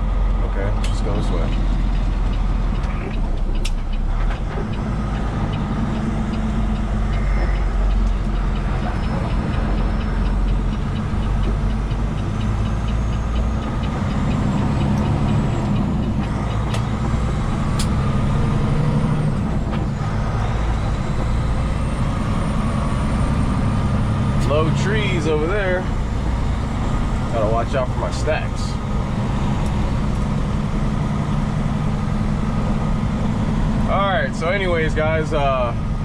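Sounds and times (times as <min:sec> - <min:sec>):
diesel truck engine humming: 0:00.0 - 0:36.0.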